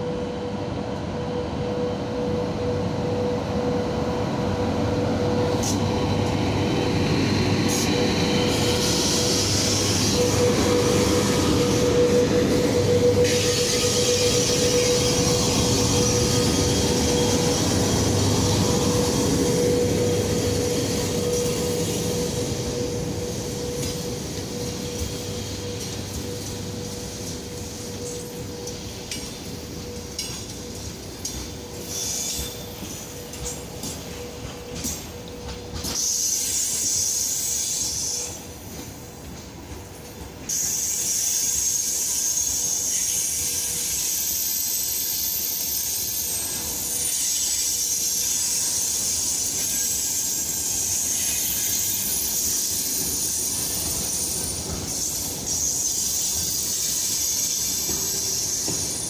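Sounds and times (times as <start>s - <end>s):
freight train wheels grinding: 1.2s - 59.0s
high wheel squeal: 2.8s - 38.8s, 40.5s - 59.0s.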